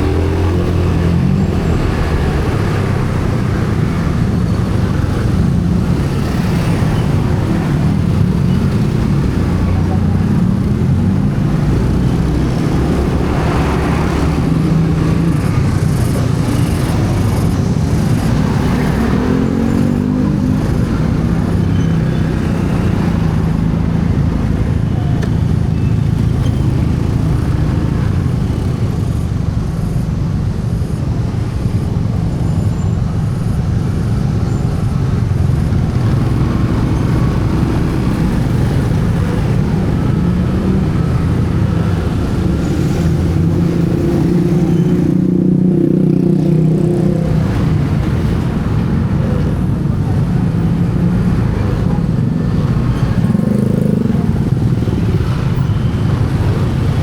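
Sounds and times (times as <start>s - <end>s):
vehicle engine and road noise: 0.0s - 57.0s.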